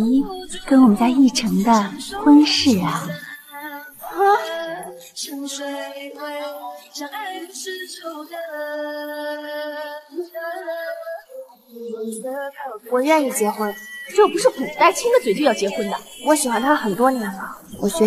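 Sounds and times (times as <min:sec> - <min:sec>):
background music: 0:00.0 - 0:09.3, 0:12.4 - 0:18.0
woman singing: 0:00.0 - 0:18.0.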